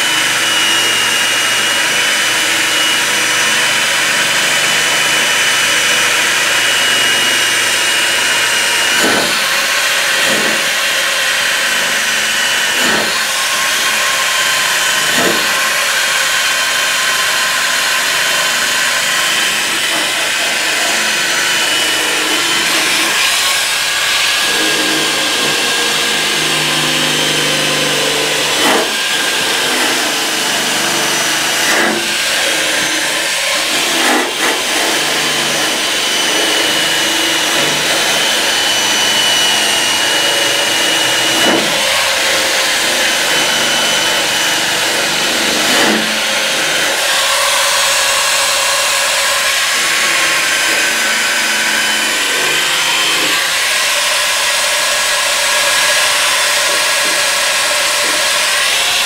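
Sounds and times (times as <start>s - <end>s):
power tool whining on steel: 0.0s - 59.0s.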